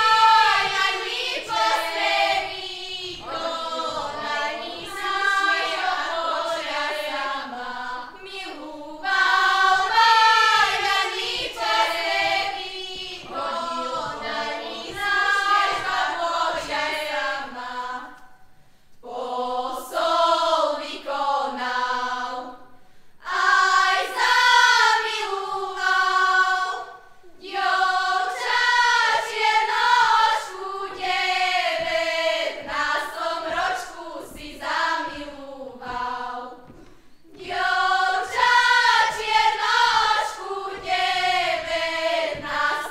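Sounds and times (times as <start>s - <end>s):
women's choir singing folk song: 0.0s - 42.9s.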